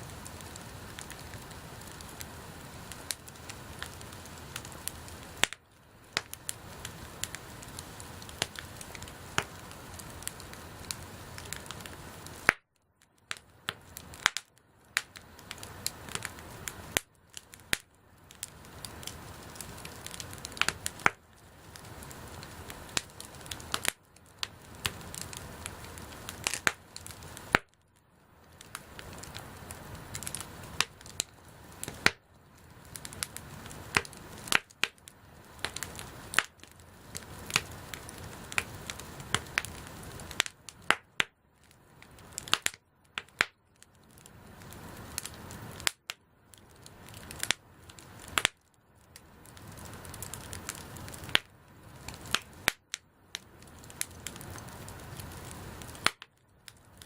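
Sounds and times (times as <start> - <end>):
steady hiss: 0.0 - 12.6, 13.2 - 43.4, 44.0 - 46.0, 49.2 - 52.8, 53.4 - 56.2
campfire crackling and popping: 0.0 - 57.0.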